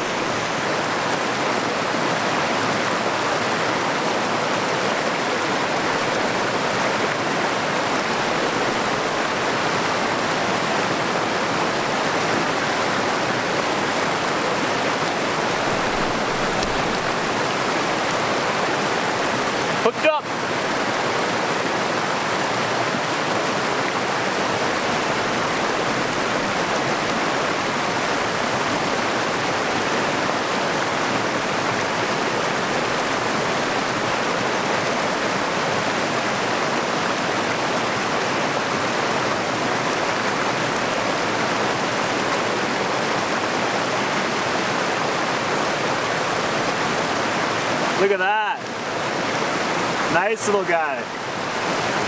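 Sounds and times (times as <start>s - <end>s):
brook water rushing over rocks: 0.0s - 52.0s.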